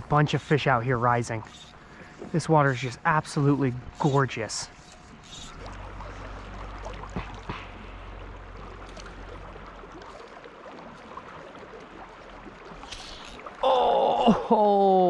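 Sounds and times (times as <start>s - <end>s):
river current flowing: 0.0s - 15.0s.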